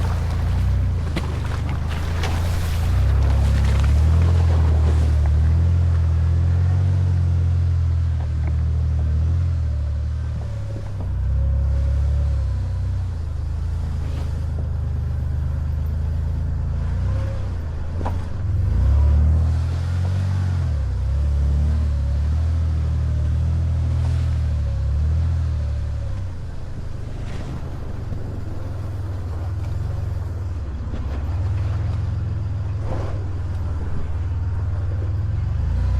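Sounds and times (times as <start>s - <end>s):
vehicle engine rumbling: 0.0s - 35.9s.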